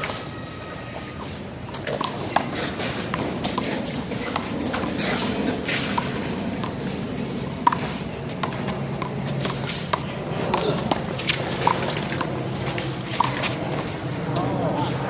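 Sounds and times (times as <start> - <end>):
sneakers squeaking: 0.0 - 14.4.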